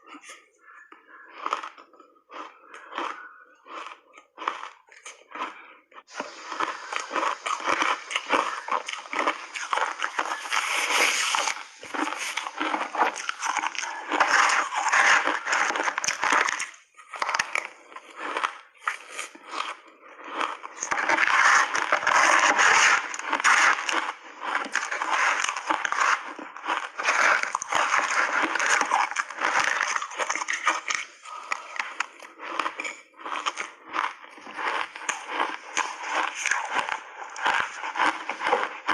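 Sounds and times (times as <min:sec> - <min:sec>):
person chewing crunchy ice: 0:00.0 - 0:38.9.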